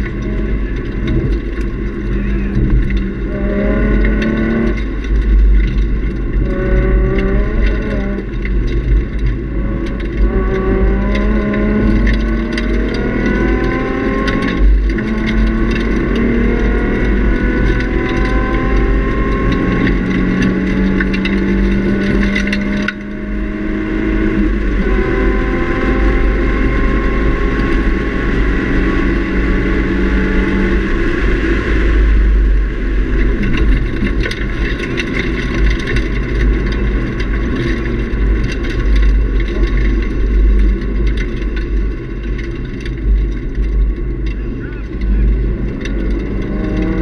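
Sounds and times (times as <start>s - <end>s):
car engine accelerating: 0.0s - 47.0s
road noise: 0.0s - 47.0s
wind noise: 0.0s - 47.0s.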